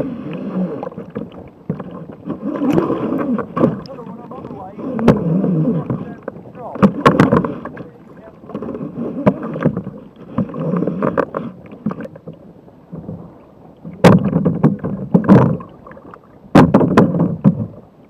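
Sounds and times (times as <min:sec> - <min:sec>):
waves slapping against kayak: 0:00.0 - 0:18.0.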